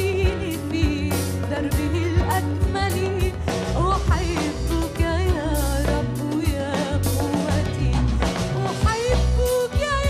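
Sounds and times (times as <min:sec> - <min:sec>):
drum beats: 0:00.0 - 0:10.0
woman singing a hymn: 0:00.0 - 0:10.0.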